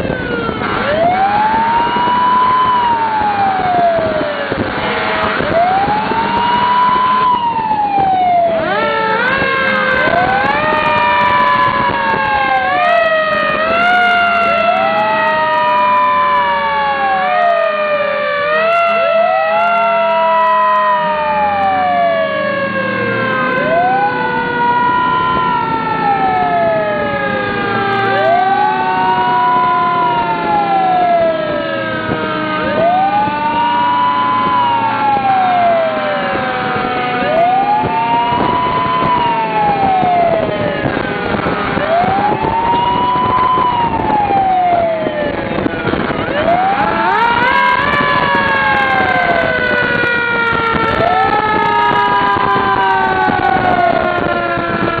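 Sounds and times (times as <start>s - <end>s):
emergency siren rising and falling: 0.0s - 55.0s
steady siren tone: 0.0s - 55.0s.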